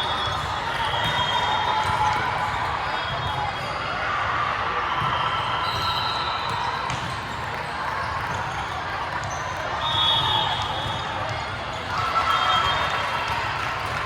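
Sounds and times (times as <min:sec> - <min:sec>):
echoing crowd chatter: 0:00.0 - 0:14.0.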